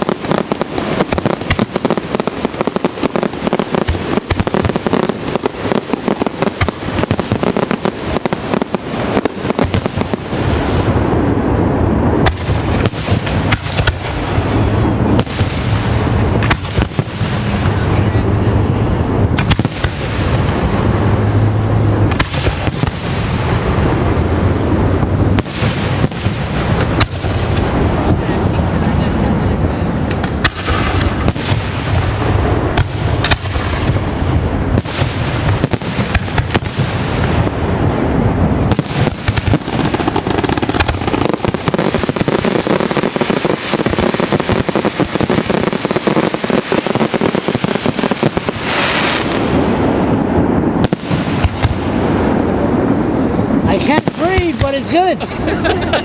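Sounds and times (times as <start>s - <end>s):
firework shell bursts and crackling: 0.0s - 11.3s, 12.1s - 29.4s, 30.0s - 55.2s
firework booms: 0.0s - 56.0s.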